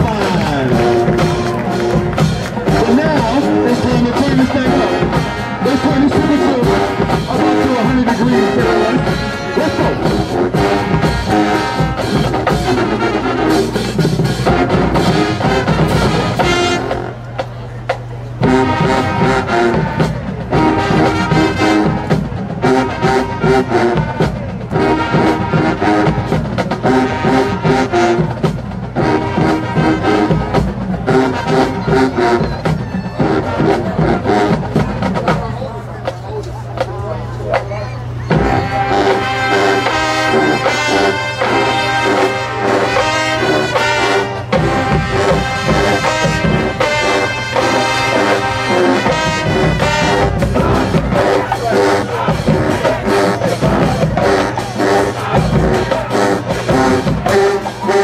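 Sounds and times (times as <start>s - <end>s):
brass instruments playing: 0.0s - 58.0s
drumline: 0.0s - 58.0s.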